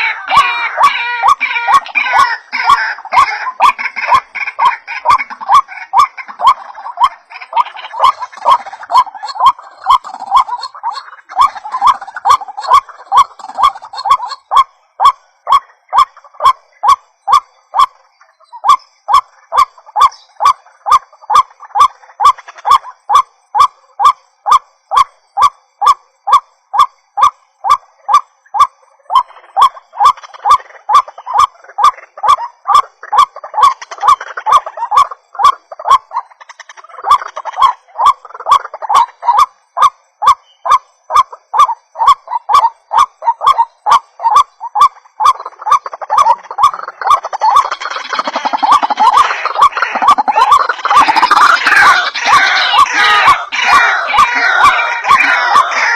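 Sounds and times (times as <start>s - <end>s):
waterhen calling: 0.0s - 55.9s.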